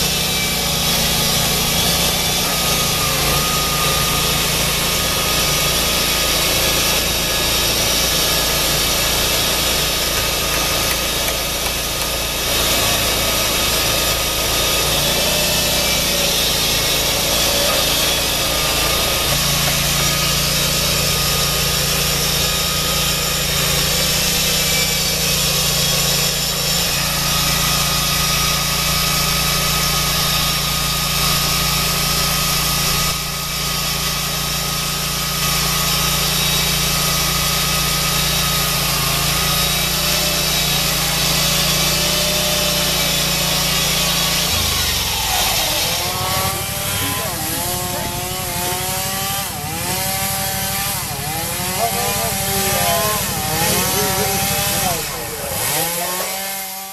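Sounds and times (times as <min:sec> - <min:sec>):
chainsaw chain rasping through wood: 0:00.0 - 0:56.9
engine running under load: 0:00.0 - 0:56.9.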